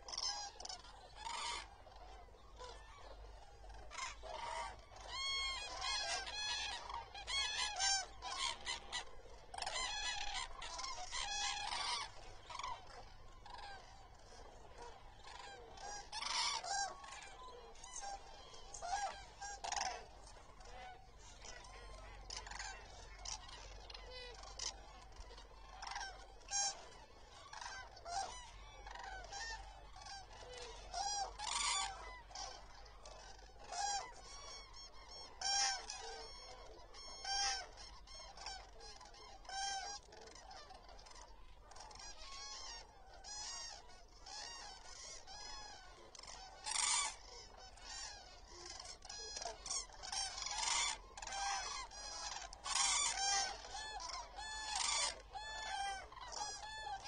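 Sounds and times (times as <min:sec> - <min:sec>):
cranes trumpeting calls: 0:00.0 - 0:57.0.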